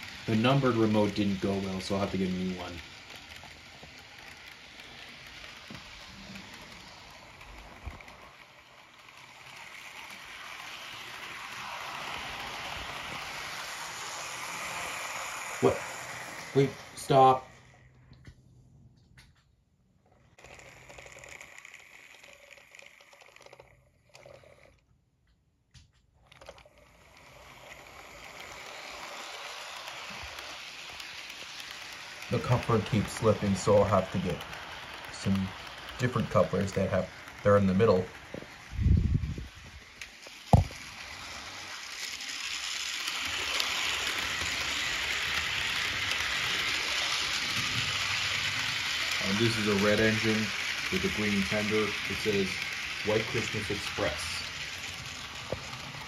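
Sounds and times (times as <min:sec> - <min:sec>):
model train running on track: 0:00.0 - 0:18.0, 0:20.0 - 0:24.8, 0:26.2 - 0:56.0.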